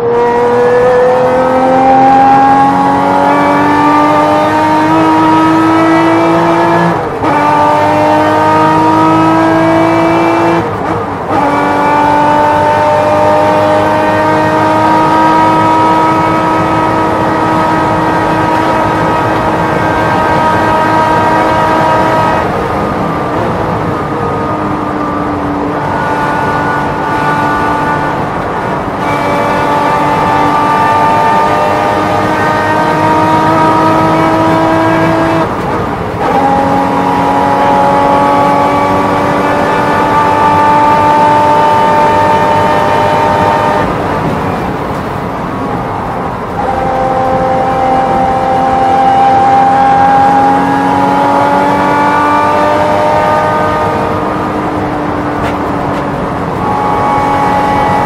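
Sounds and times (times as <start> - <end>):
race car engine at full throttle: 0.0 - 58.0.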